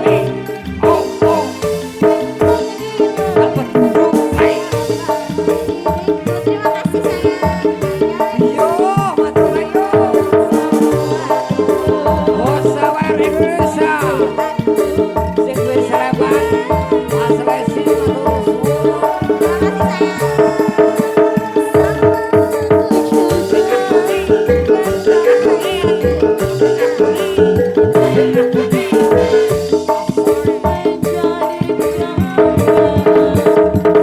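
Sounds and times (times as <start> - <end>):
hand percussion beat: 0.0 - 34.0
live band music: 0.0 - 34.0.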